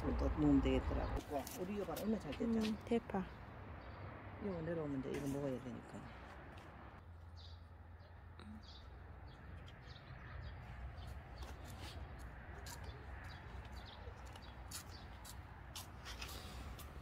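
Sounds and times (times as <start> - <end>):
small birds chirping: 0.0 - 6.2, 7.0 - 17.0.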